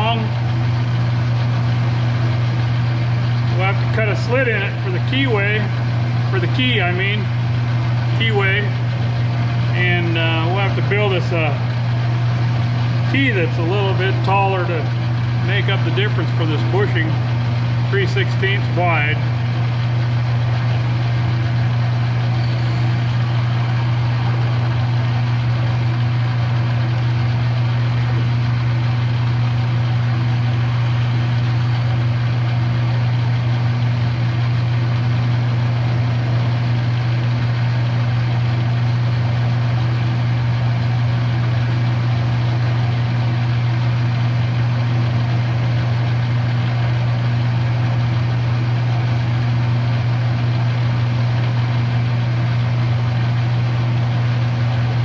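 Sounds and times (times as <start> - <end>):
electric motor humming and whirring: 0.0 - 55.0.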